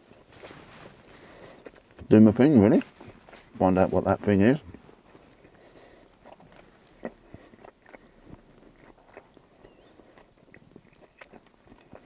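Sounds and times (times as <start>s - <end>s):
person chewing and crunching: 0.0s - 12.0s.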